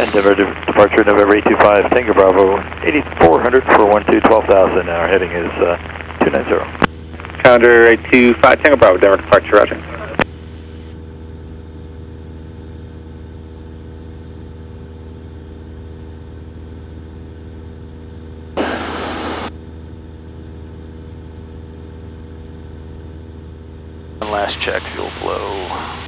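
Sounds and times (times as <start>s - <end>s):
propeller plane engine droning: 0.0s - 26.0s.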